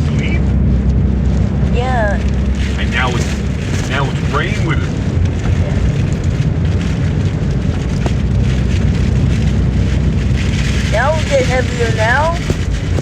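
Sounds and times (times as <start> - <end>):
heavy rain: 0.0 - 13.0
strong wind rumble: 0.0 - 13.0.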